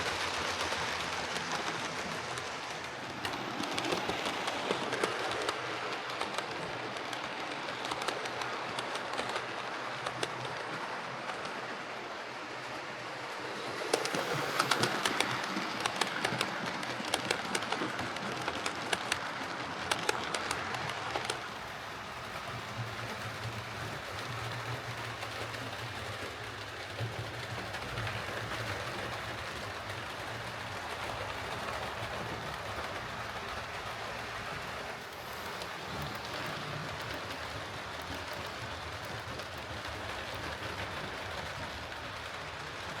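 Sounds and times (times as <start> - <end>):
model locomotive running hum: 0.0 - 43.0.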